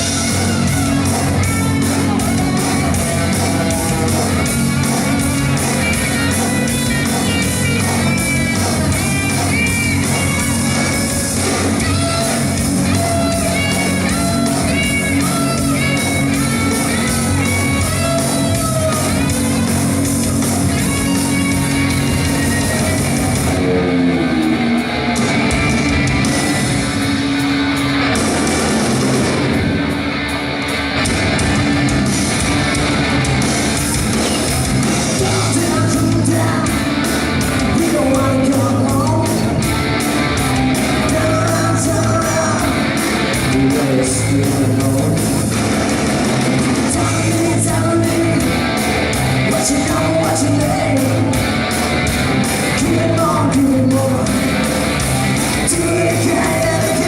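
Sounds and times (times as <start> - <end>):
bass guitar: 0.0 - 57.0
distorted electric guitar: 0.0 - 57.0
driving drum beat: 0.0 - 57.0.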